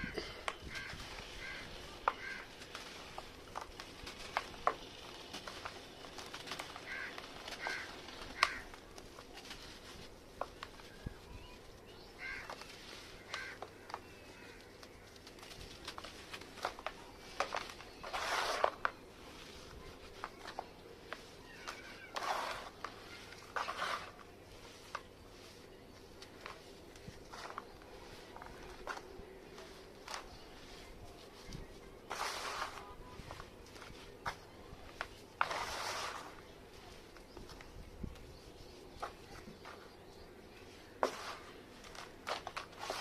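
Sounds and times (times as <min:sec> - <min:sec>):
sand chunks crunching: 0:00.1 - 0:11.0, 0:11.6 - 0:37.4, 0:38.3 - 0:43.0.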